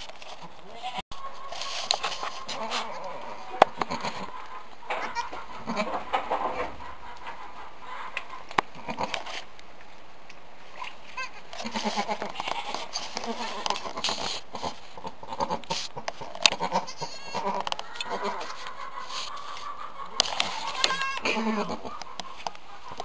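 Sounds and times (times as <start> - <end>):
goats calling: 0.5 - 9.5, 10.7 - 23.0.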